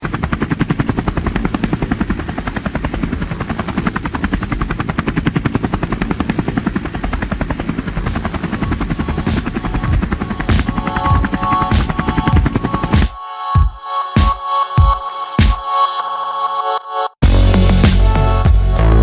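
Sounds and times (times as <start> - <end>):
helicopter rotor chopping: 0.0 - 15.6.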